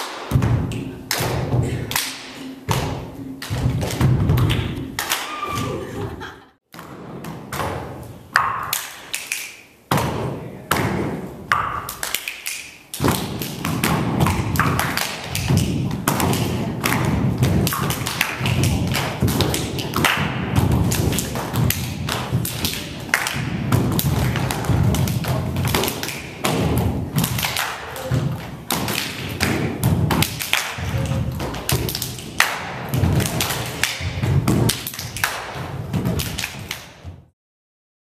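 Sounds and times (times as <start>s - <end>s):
hand claps and body slaps: 0.0s - 5.7s, 8.4s - 10.1s, 10.7s - 37.0s.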